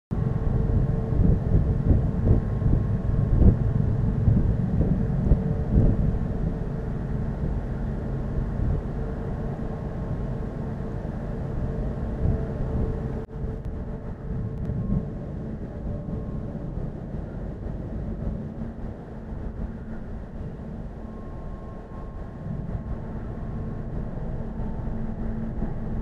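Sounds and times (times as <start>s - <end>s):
faint steady drone: 0.1s - 26.0s
wind buffeting microphone: 0.1s - 26.0s.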